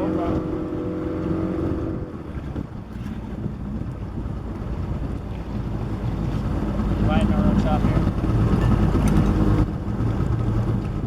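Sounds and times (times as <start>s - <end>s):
boat engine hum: 0.0s - 11.0s
water noise: 0.0s - 11.0s
wind rumbling on microphone: 0.0s - 11.0s.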